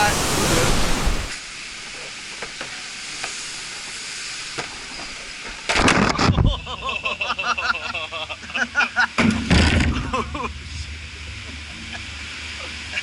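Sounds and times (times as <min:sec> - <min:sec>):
waterfall hiss: 0:00.0 - 0:13.0.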